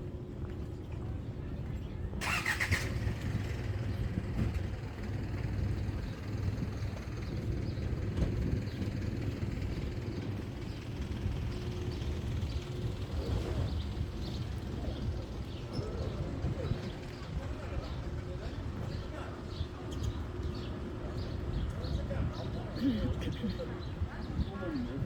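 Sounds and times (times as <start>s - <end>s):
vehicle engine rumbling: 2.2s - 25.0s.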